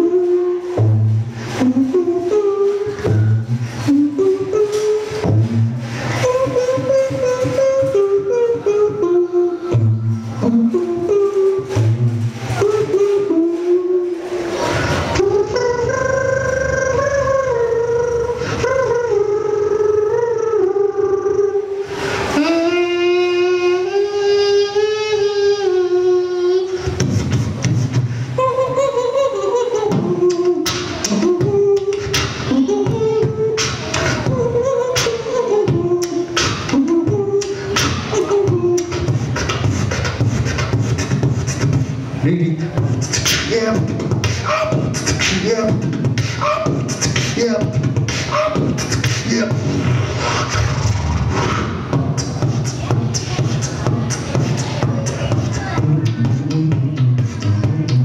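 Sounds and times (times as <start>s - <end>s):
person beatboxing: 0.0s - 58.0s.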